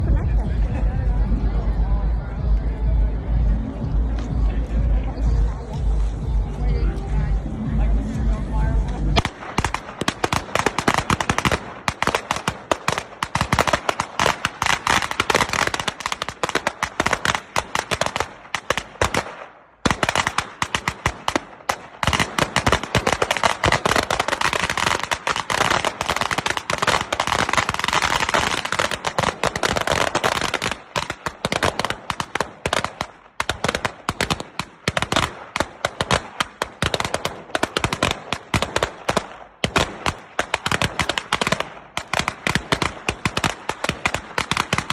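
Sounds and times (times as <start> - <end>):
firecrackers cracking: 8.7 - 44.9.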